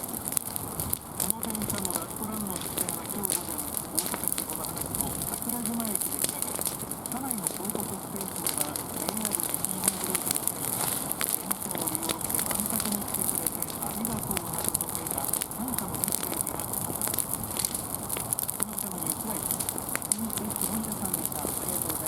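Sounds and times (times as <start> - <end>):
sharp pops and snaps: 0.0 - 22.0
steady fire hiss: 0.0 - 22.0
wood fire crackling: 0.0 - 22.0.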